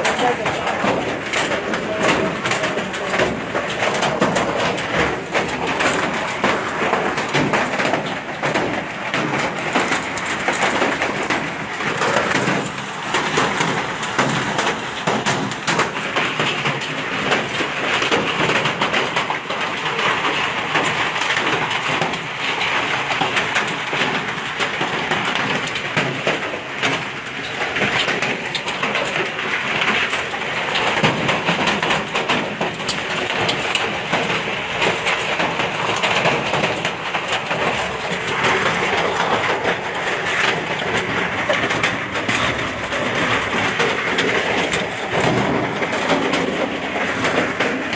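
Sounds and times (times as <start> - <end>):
hail clattering: 0.0 - 47.9.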